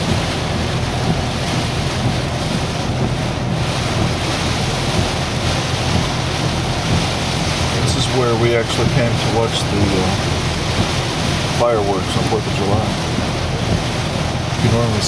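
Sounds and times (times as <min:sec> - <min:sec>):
heavy rain: 0:00.0 - 0:15.0
hurricane wind: 0:00.0 - 0:15.0
wind buffeting microphone: 0:00.0 - 0:15.0.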